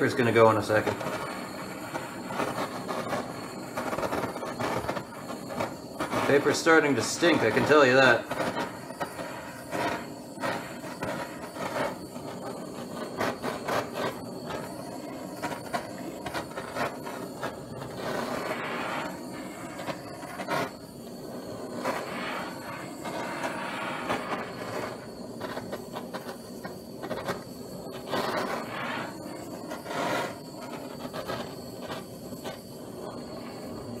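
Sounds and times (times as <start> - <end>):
burning paper crackling: 0.0 - 34.0
gas torch hissing: 0.0 - 34.0.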